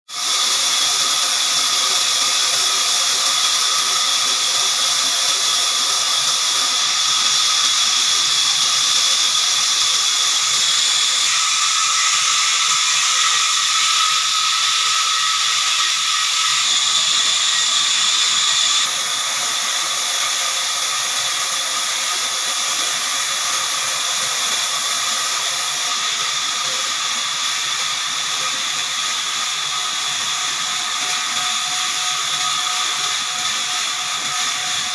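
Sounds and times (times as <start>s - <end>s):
band saw blade cutting log: 0.2s - 34.9s.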